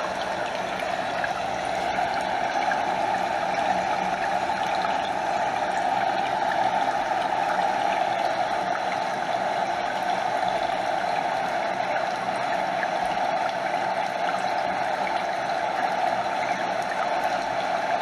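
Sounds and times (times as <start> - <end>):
stream water flowing over waterfall: 0.0 - 18.0.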